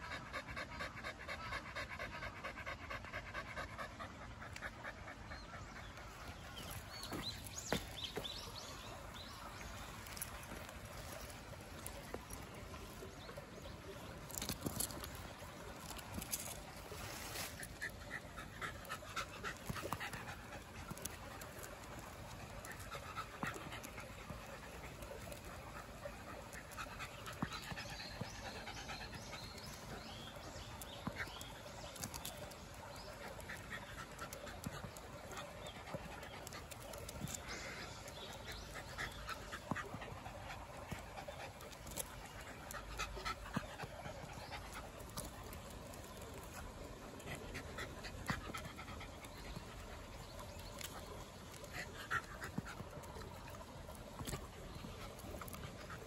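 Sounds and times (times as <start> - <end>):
dog panting: 0.0 - 56.0.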